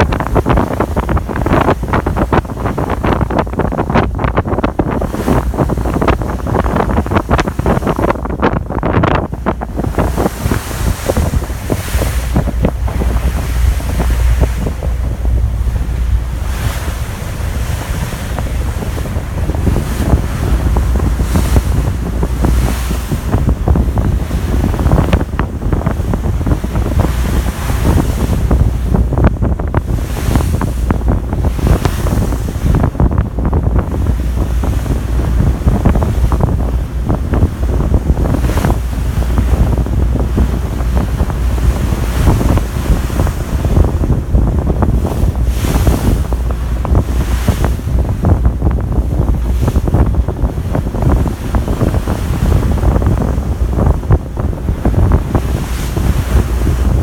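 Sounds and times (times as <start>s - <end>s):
low rumble from ship: 0.0s - 57.0s
sea water rushing along hull: 0.0s - 57.0s
wind buffeting microphone: 0.0s - 57.0s.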